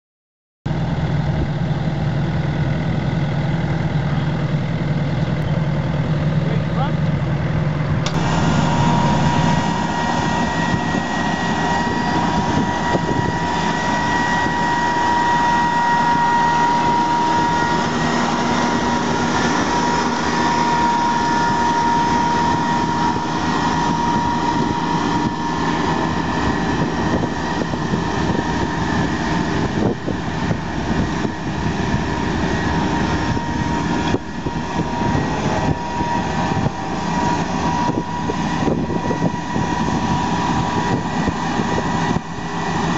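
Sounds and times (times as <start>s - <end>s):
diesel mower engine running: 0.7s - 42.9s
high whine: 0.7s - 42.9s.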